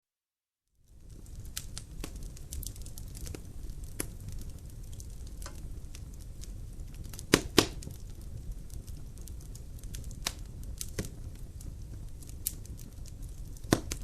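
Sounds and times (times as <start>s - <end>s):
low rumble of fire: 0.7s - 14.0s
logs crackling in fireplace: 0.8s - 14.0s.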